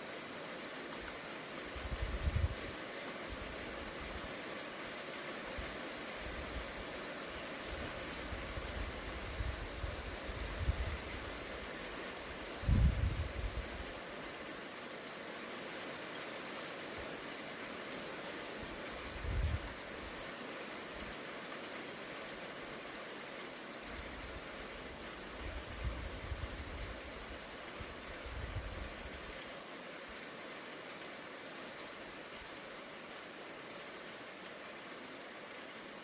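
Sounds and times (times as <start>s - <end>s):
rain hissing: 0.0s - 36.0s.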